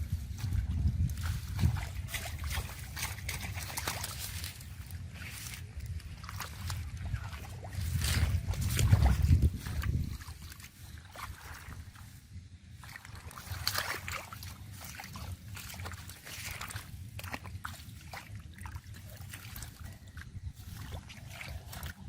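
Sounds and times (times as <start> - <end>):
low rumble: 0.0 - 22.0
muddy water sloshing and splashing: 0.0 - 22.0.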